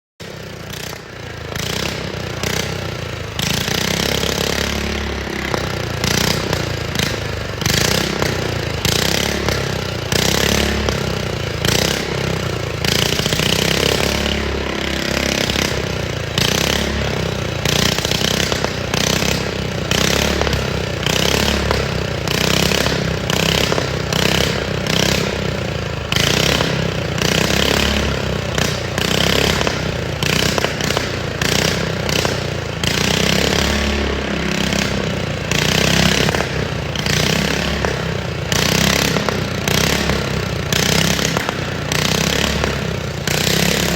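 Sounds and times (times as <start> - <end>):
exhaust crackling pops: 0.2 - 43.9
lawn mower engine revving: 0.2 - 43.9.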